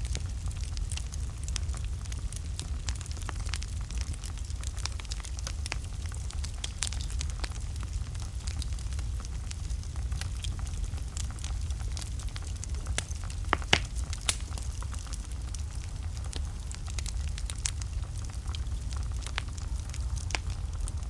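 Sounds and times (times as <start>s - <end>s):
burning logs crackling and popping: 0.0s - 21.0s
low rumble of flames: 0.0s - 21.0s.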